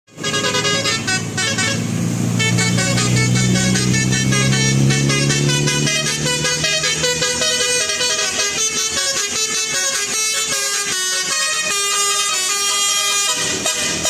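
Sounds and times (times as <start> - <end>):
bus horns playing melody: 0.1 - 14.0.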